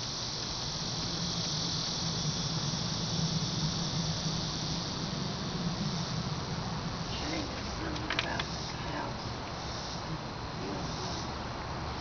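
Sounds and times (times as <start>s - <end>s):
high-pitched insect chorus: 0.0s - 12.0s
low steady hum: 0.0s - 12.0s.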